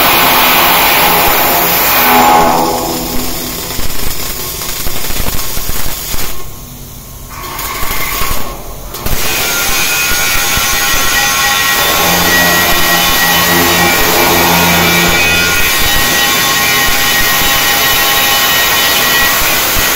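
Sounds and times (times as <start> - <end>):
welding arc crackling: 0.0 - 19.9.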